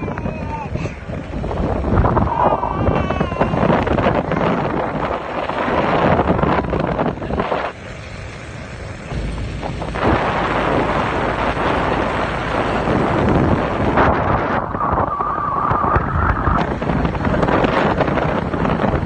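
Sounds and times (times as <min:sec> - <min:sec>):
motorbike engine rumble: 0:00.0 - 0:19.0
wind buffeting microphone: 0:00.0 - 0:19.0.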